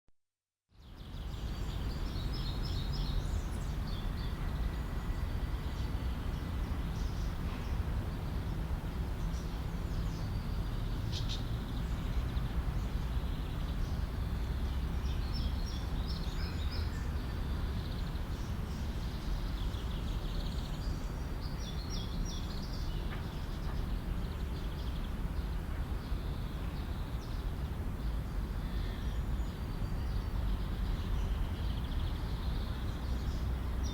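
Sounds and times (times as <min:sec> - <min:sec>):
distant traffic rumble: 0:01.6 - 0:33.9.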